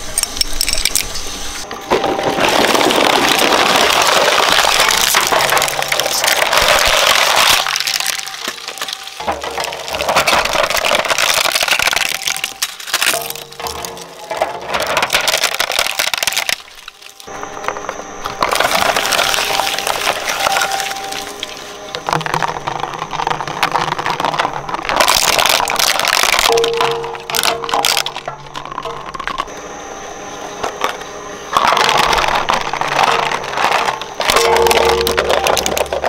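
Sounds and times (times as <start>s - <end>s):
shredder crushing plastic: 1.9s - 29.5s, 30.6s - 36.0s.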